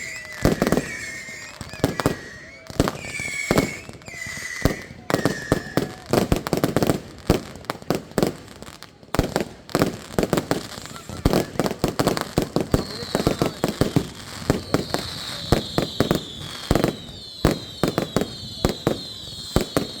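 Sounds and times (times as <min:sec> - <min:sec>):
fireworks whistling: 0:00.0 - 0:07.6, 0:09.2 - 0:20.0
fireworks bangs and crackling: 0:00.0 - 0:20.0.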